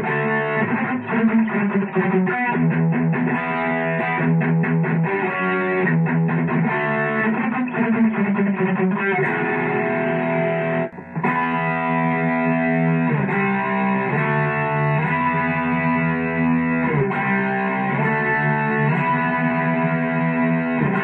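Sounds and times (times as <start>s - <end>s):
distorted electric guitar chords: 0.0s - 21.0s.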